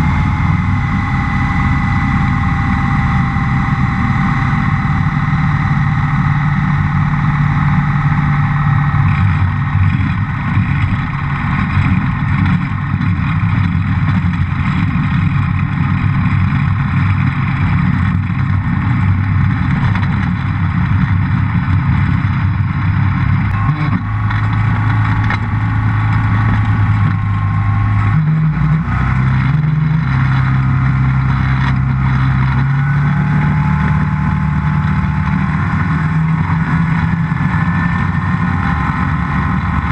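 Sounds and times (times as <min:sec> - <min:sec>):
aircraft engine and propeller running: 0:00.0 - 0:39.9.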